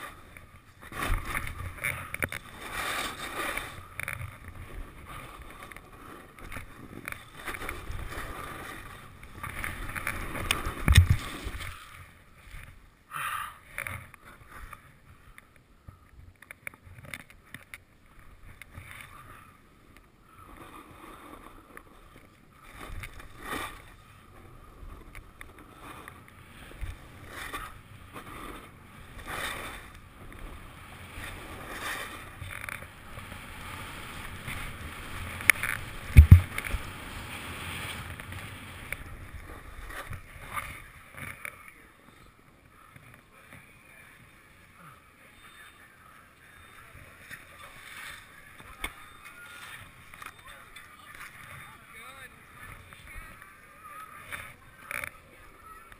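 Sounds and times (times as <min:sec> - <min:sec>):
skis scraping over snow: 0:00.0 - 0:12.4, 0:20.7 - 0:55.9.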